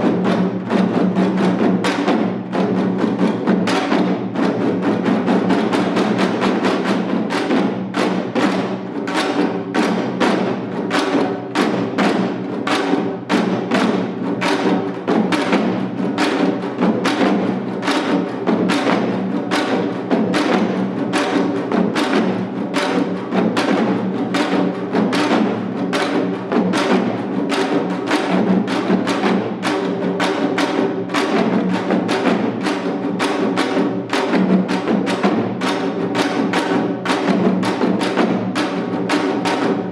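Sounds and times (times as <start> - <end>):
hourglass drums played with sticks: 0.0 - 39.9.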